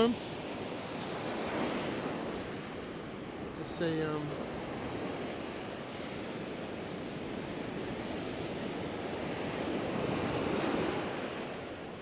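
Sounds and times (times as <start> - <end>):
ocean surf breaking on sand: 0.0 - 12.0.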